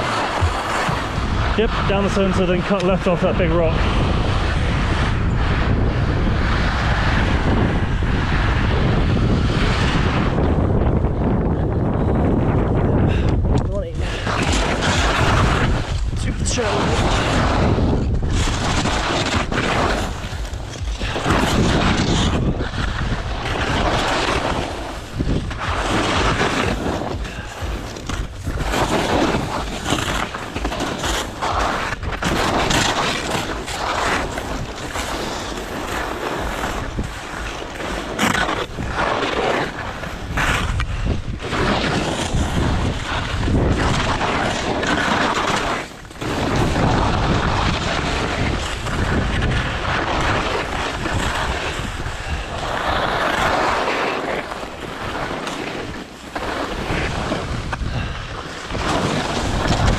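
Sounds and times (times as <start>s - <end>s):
ski edges scraping snow: 0.0s - 10.6s, 14.0s - 59.9s
wind buffeting microphone: 0.0s - 59.9s.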